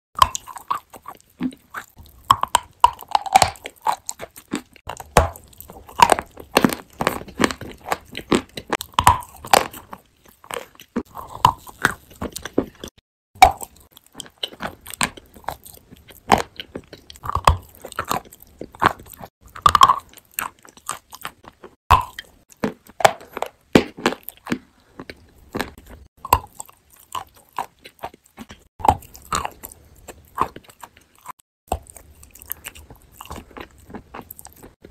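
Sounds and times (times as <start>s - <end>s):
crunchy food chewing: 0.2s - 34.9s
wet mouth sounds: 0.2s - 34.9s.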